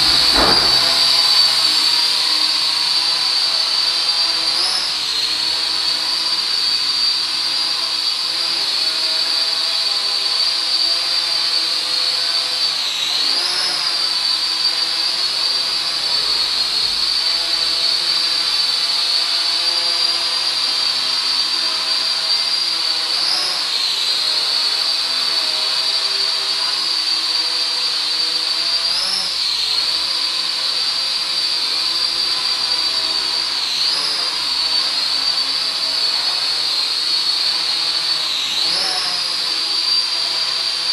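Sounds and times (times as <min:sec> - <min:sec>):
quadcopter propellers whining: 0:00.0 - 0:40.9.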